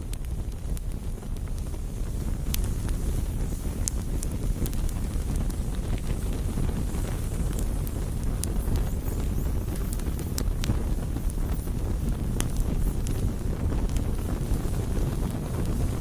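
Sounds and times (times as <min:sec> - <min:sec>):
bonfire low rumble: 0:00.0 - 0:16.0
fire crackles and pops: 0:00.0 - 0:16.0.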